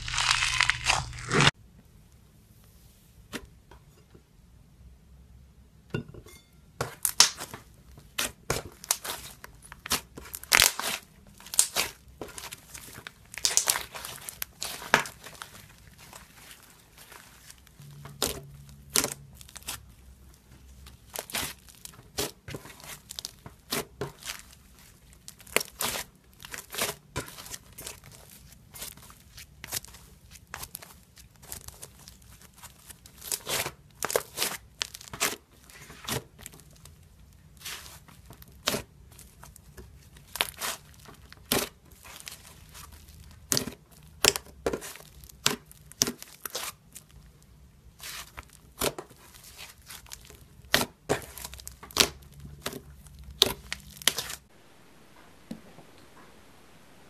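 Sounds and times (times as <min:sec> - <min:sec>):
slime crackling and popping: 0:00.0 - 0:01.5, 0:07.0 - 0:07.6, 0:08.2 - 0:20.0, 0:20.8 - 0:35.4, 0:36.0 - 0:47.4, 0:48.0 - 0:54.5.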